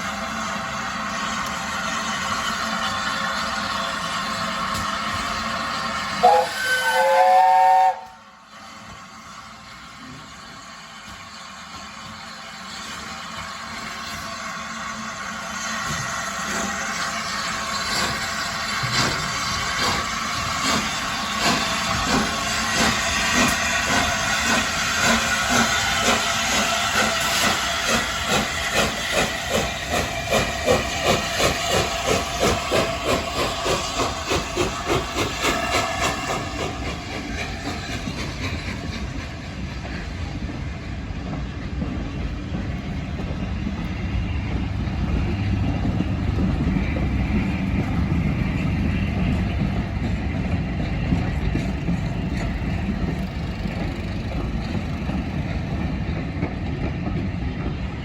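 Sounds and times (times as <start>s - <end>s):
hissing steam: 0.0s - 58.0s
steam locomotive exhaust beats: 0.0s - 58.0s.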